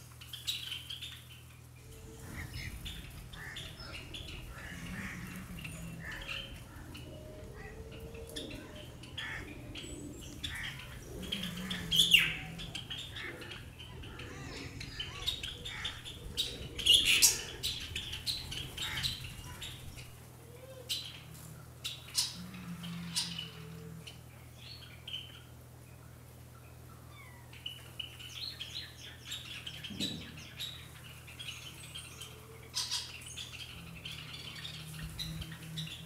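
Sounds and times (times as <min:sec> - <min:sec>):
birds squawking and chirping: 0:00.0 - 0:36.0.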